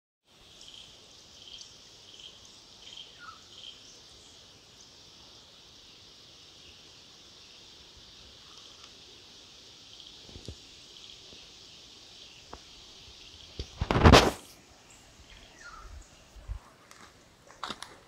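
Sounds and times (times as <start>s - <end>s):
high-pitched insect chorus: 0.3s - 16.5s.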